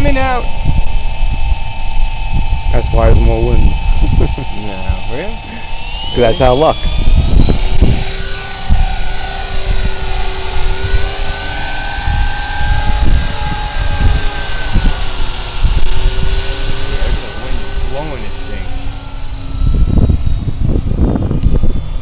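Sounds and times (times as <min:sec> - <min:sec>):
rc helicopter rotors whining: 0:00.0 - 0:22.0
wind buffeting microphone: 0:00.0 - 0:22.0.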